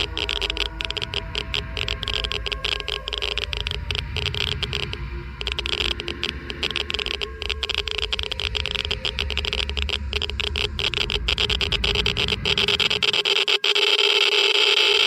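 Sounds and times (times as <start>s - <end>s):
low rumble: 0.0s - 13.2s
droning tone: 0.0s - 15.0s
geiger counter clicking: 0.0s - 15.0s.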